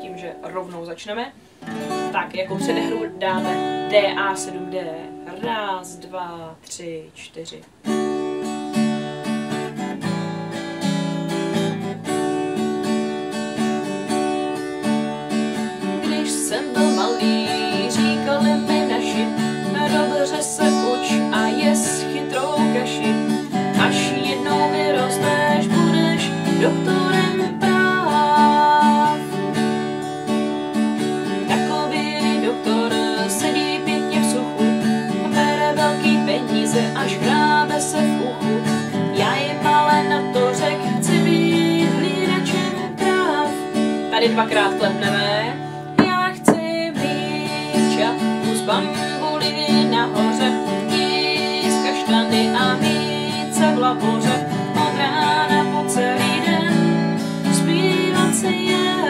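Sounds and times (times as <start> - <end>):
acoustic guitar strumming chords: 0.0 - 6.6, 7.7 - 59.0.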